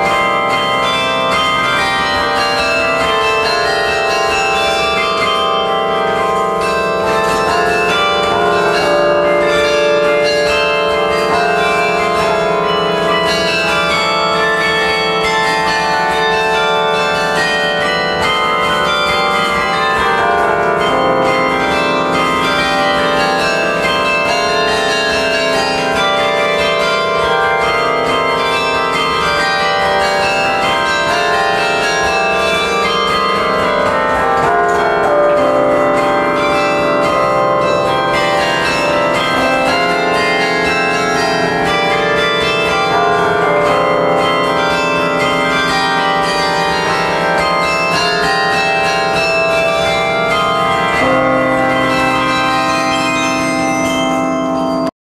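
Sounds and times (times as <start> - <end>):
carillon bells playing music: 0.0 - 54.9.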